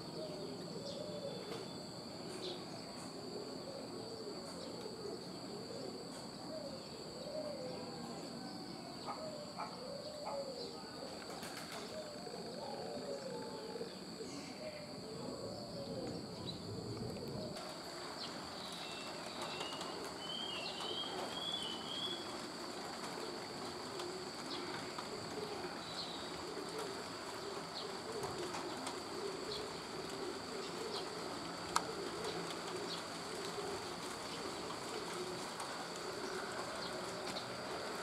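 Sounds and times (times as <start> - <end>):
dove cooing: 0.0 - 38.0.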